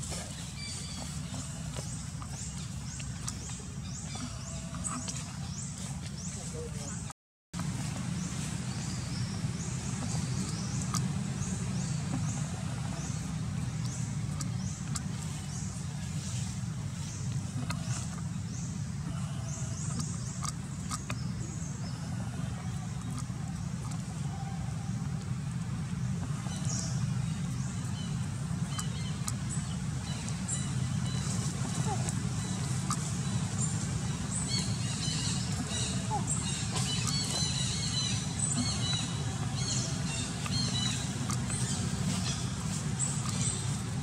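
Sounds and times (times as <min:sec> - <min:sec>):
low rumble: 0:00.0 - 0:44.0.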